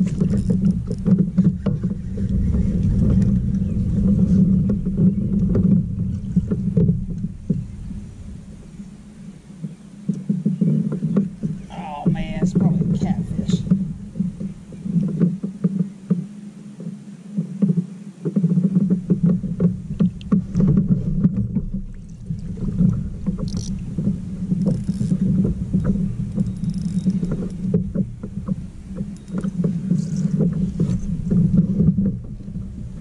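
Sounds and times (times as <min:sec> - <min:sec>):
water slapping against kayak hull: 0:00.0 - 0:08.9, 0:09.6 - 0:33.0.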